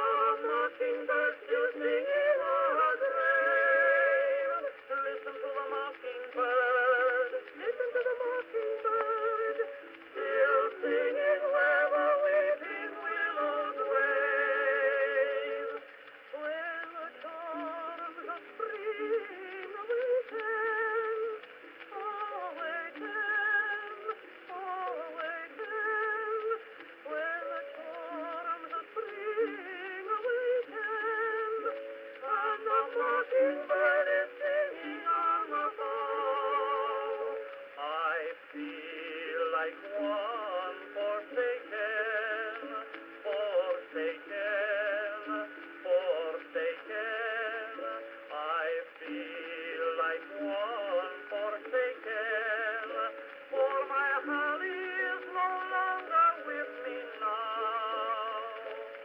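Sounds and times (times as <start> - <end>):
soprano and tenor duet: 0.0 - 59.0.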